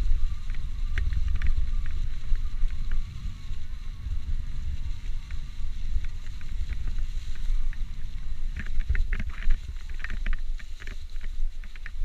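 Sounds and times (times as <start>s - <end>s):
bike clicks and rattles: 0.0s - 12.0s
wind buffeting microphone: 0.0s - 12.0s.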